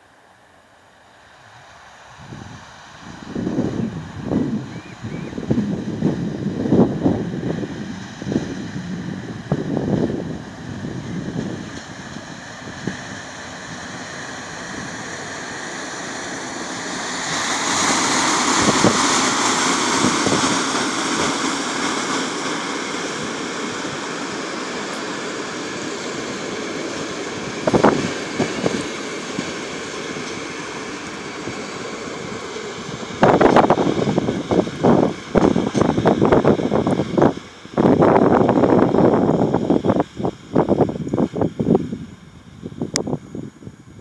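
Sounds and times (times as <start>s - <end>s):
train wheels rumbling on rail: 1.0s - 44.0s.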